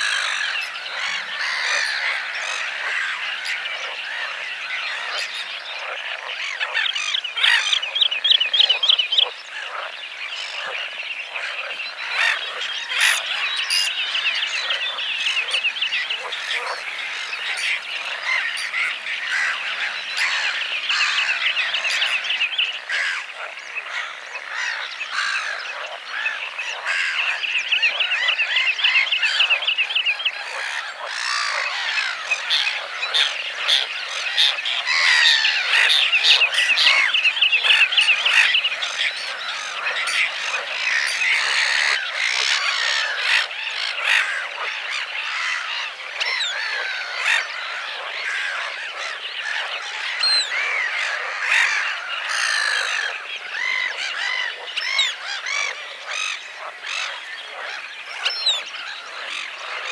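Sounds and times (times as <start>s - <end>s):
birds chirping and calling: 0.0s - 59.9s
frogs croaking: 0.0s - 59.9s.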